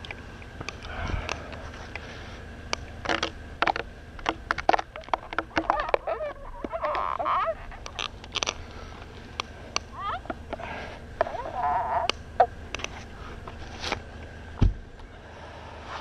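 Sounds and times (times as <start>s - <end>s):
climbing spurs crunching into bark: 0.0s - 15.1s.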